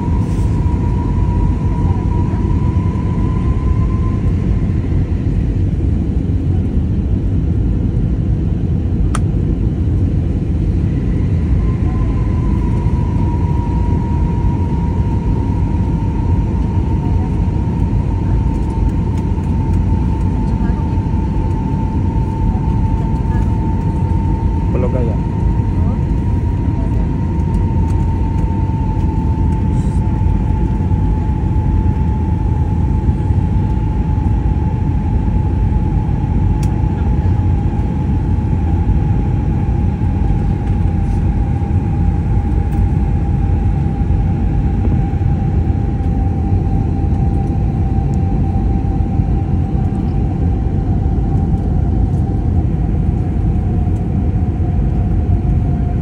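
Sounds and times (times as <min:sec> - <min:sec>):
engine whine falling in pitch: 0:00.0 - 0:06.2, 0:10.3 - 0:56.0
airliner cabin engine rumble: 0:00.0 - 0:56.0.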